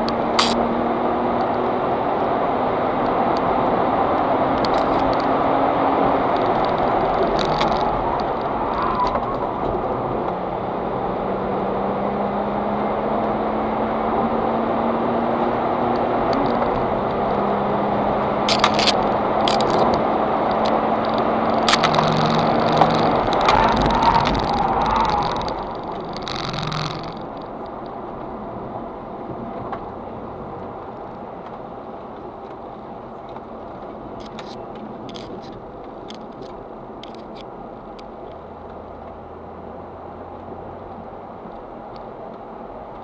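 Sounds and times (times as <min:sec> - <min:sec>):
car engine running hard: 0:00.0 - 0:43.0
road noise: 0:00.0 - 0:43.0.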